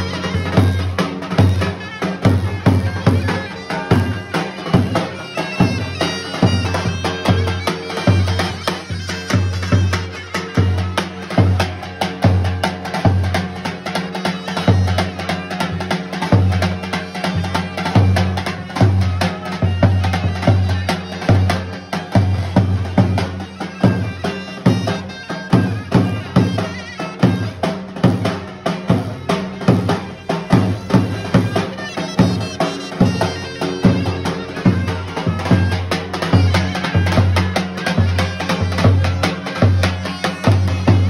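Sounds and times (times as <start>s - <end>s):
bass drum beaten in folk rhythm: 0.0s - 41.0s
wind instrument folk melody: 0.0s - 41.0s.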